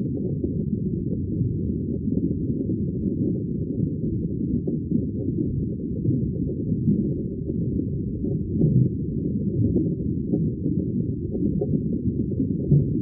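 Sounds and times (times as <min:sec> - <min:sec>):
muffled underwater bubbling: 0:00.0 - 0:13.0.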